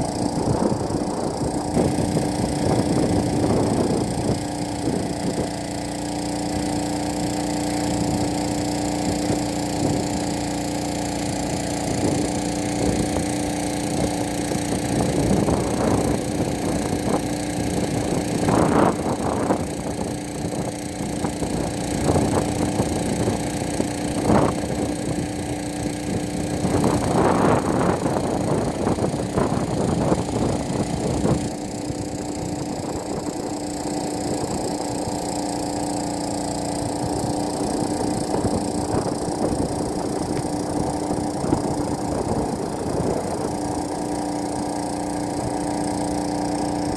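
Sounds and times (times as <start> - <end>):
steady machine hum: 0.0 - 46.9.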